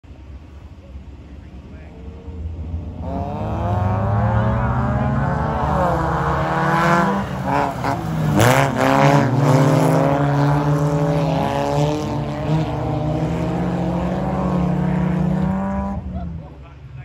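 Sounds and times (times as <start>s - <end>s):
racing car engines revving: 0.1s - 17.0s.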